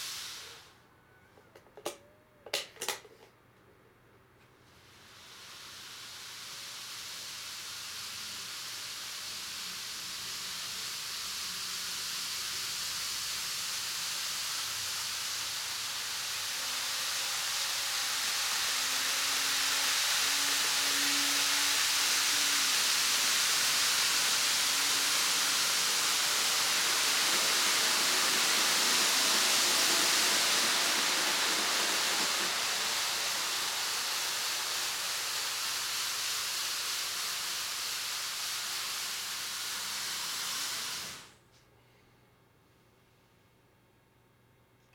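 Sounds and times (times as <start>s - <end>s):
steady rushing hiss: 0.0s - 0.7s, 4.6s - 41.4s.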